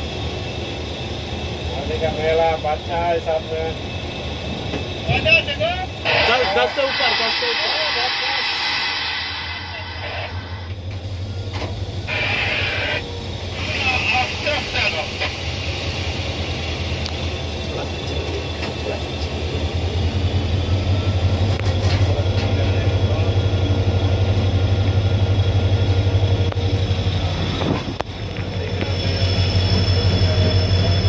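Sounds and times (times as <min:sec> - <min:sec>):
train locomotive droning: 0:00.0 - 0:31.0.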